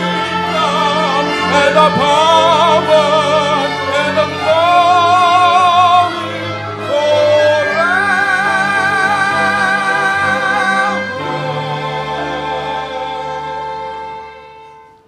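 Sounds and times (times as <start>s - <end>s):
classical singer with vibrato: 0.0s - 15.0s
instrumental ensemble: 0.0s - 15.0s.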